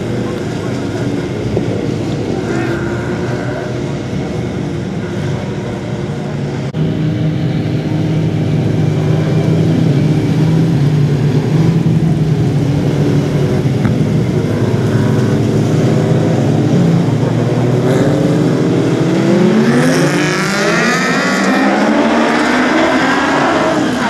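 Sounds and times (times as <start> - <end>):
racing car engines droning: 0.0 - 24.0.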